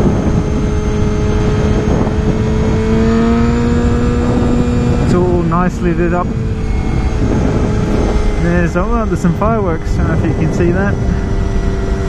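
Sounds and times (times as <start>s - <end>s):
motorcycle engine at speed: 0.0s - 12.0s
wind rush on microphone: 0.0s - 12.0s.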